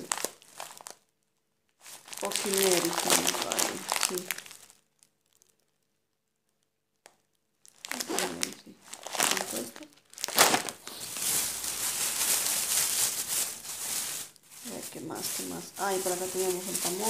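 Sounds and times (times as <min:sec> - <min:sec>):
plastic bags rustling: 0:00.0 - 0:01.1, 0:01.8 - 0:05.7, 0:07.6 - 0:17.0.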